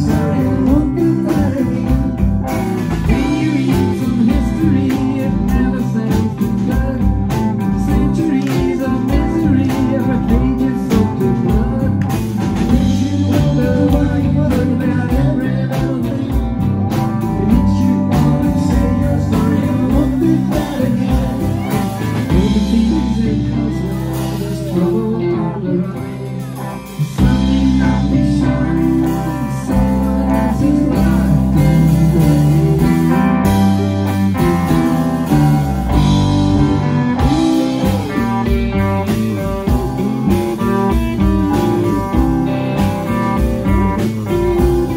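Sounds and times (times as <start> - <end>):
drum kit: 0.0 - 44.9
electric guitars: 0.0 - 44.9
person singing lead vocal: 0.0 - 44.9.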